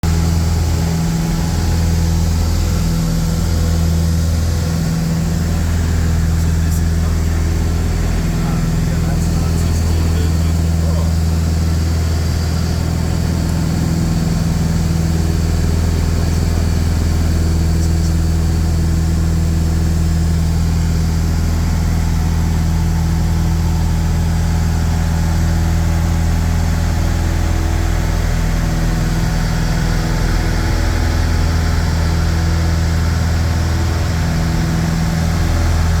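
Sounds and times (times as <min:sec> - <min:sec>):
aircraft piston engines droning: 0:00.0 - 0:36.0.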